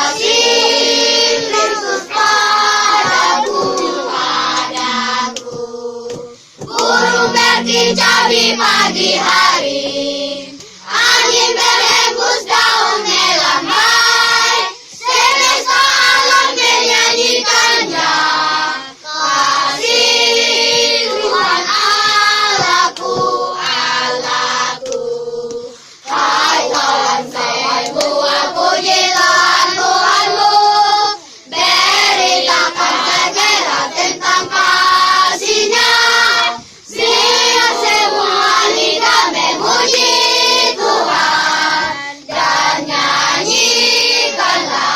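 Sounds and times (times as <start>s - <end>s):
choir singing a sacred song: 0.0s - 44.9s.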